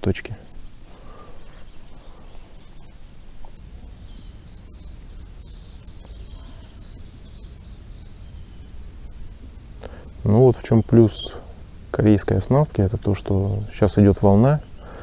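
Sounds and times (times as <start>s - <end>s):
small bird singing: 0.0s - 15.0s.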